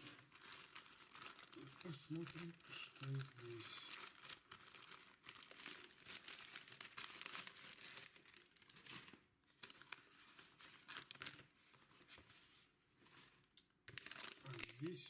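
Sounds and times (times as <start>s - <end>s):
plastic packaging crinkling and tearing: 0.0s - 15.0s.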